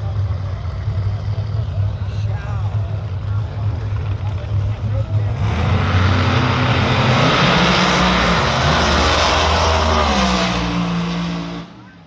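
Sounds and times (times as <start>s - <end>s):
drag racing cars at full throttle: 0.0s - 12.0s.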